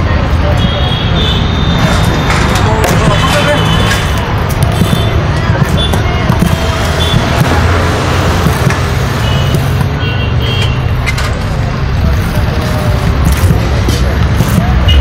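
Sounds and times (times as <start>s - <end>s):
street noise: 0.0s - 15.0s
vehicle engine rumbling: 0.0s - 15.0s.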